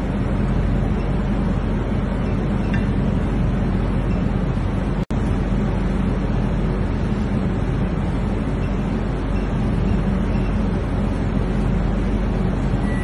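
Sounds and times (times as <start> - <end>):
loud mechanical roar: 0.0 - 13.0.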